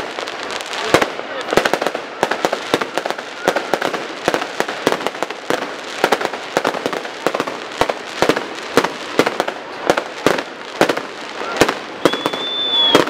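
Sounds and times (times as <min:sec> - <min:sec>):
fireworks bangs and pops: 0:00.0 - 0:13.0
fireworks crackle: 0:00.0 - 0:13.0.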